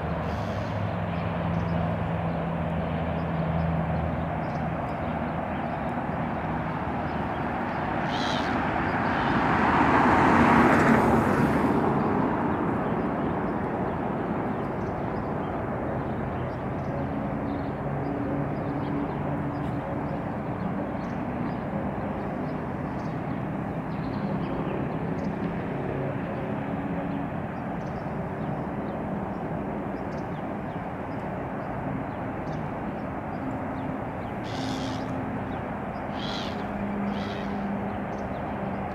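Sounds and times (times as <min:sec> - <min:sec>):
distant traffic hum: 0:00.0 - 0:38.9
vehicle passing: 0:00.0 - 0:38.9.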